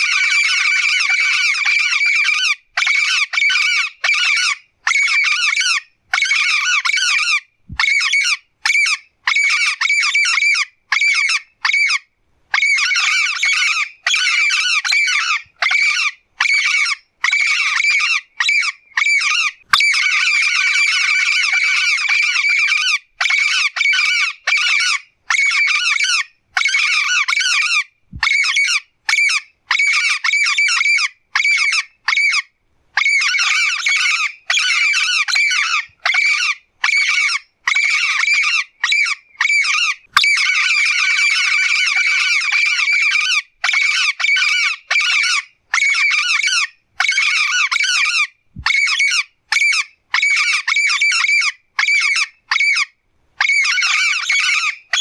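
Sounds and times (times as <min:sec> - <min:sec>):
parrot squawking: 0:00.0 - 0:32.4, 0:33.0 - 0:55.0.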